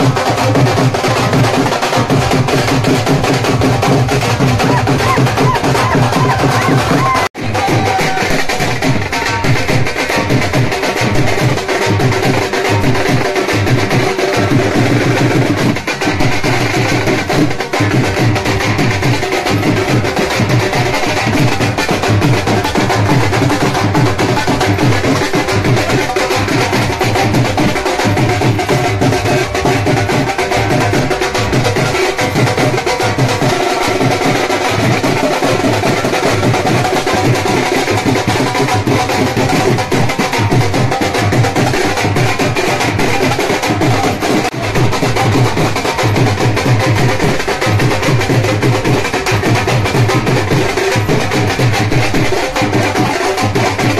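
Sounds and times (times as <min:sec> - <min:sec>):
dhol drums dance rhythm: 0:00.0 - 0:53.9.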